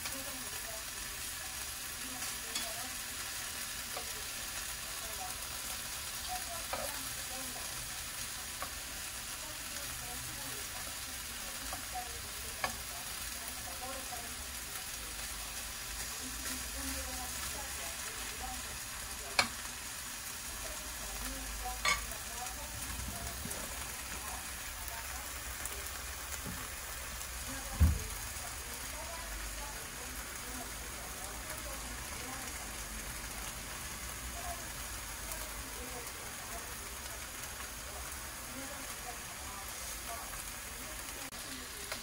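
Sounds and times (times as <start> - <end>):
root strips sizzling in a frying pan: 0.0 - 42.0.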